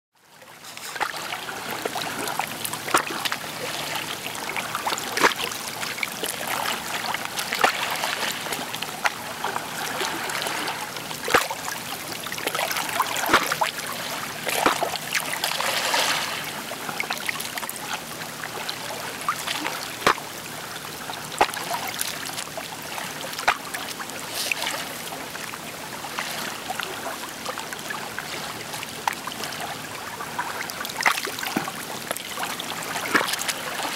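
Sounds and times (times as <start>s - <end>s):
sea waves lapping and splashing: 0.3s - 33.9s.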